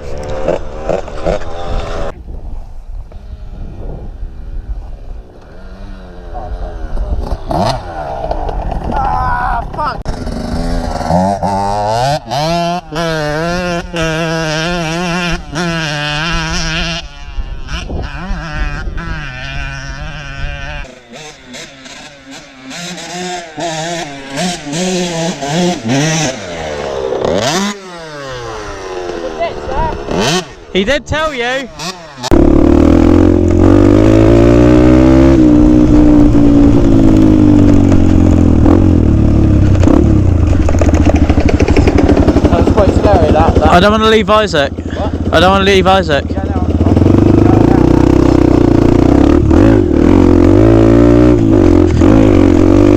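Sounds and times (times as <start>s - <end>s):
dirt bike engine revving: 5.2s - 52.9s.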